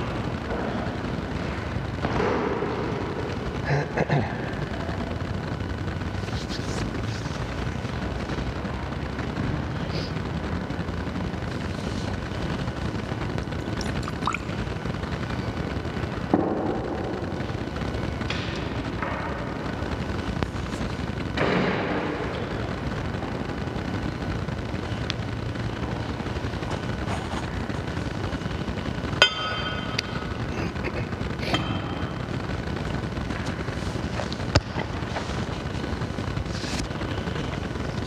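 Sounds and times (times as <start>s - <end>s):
low rumbling background noise: 0.0s - 38.0s.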